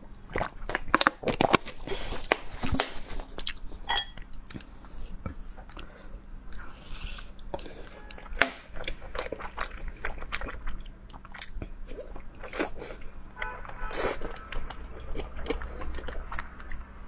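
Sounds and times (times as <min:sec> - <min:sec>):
wet chewing and smacking: 0:00.2 - 0:17.0.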